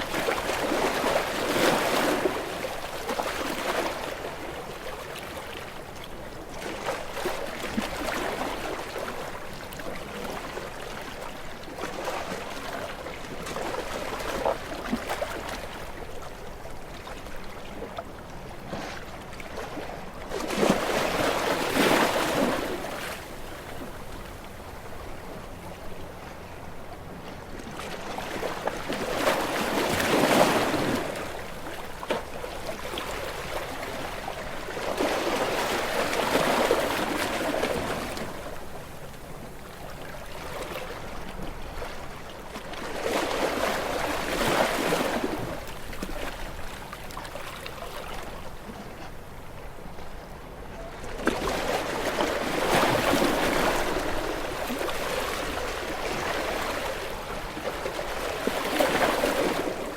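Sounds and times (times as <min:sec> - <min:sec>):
waves breaking against rocks: 0:00.0 - 0:16.4, 0:18.9 - 0:25.1, 0:27.5 - 0:49.6, 0:50.6 - 0:59.9
steady wash of water: 0:00.0 - 0:59.9.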